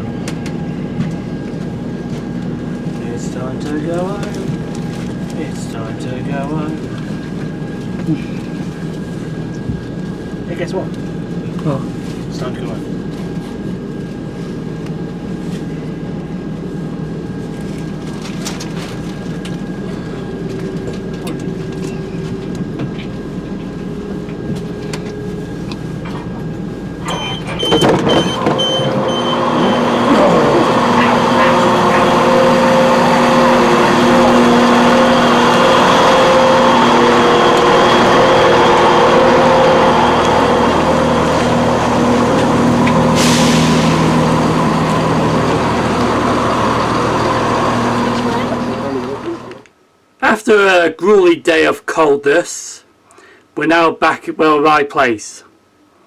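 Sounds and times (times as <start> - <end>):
diesel train engine humming: 0.0 - 49.7.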